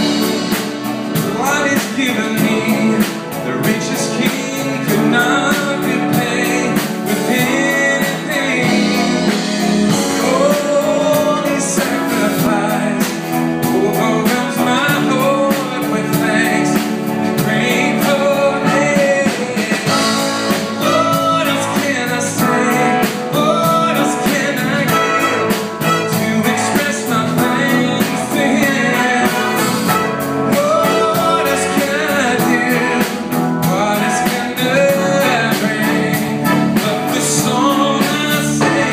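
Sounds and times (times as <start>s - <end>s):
worship band playing: 0.0s - 38.9s.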